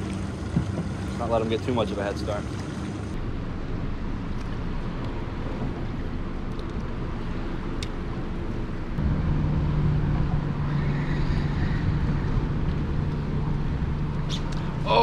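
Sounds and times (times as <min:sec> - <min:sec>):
low engine hum: 0:00.0 - 0:15.0
water noise: 0:00.0 - 0:15.0
wind: 0:00.0 - 0:15.0.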